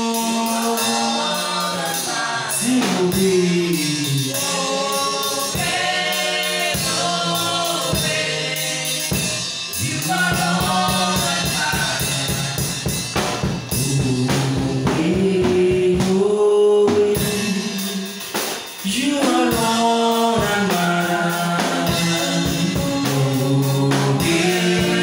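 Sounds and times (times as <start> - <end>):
man singing into a microphone: 0.0 - 5.9, 6.8 - 12.9, 13.8 - 25.0
band with drum kit: 0.0 - 25.0.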